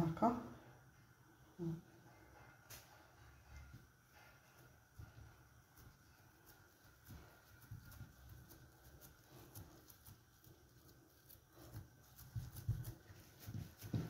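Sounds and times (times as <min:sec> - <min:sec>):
hands rolling dough on cloth: 0:01.6 - 0:14.0.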